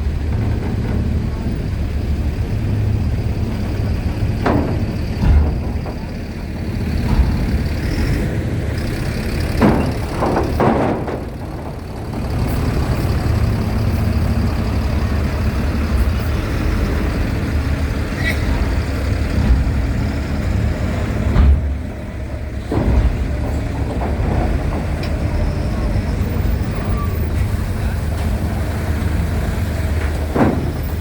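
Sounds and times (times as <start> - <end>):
diesel engines idling: 0.0 - 31.0.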